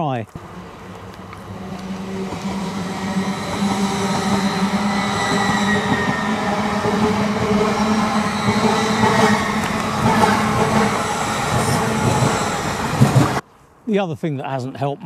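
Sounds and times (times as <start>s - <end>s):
passenger train passing: 0.3s - 13.4s.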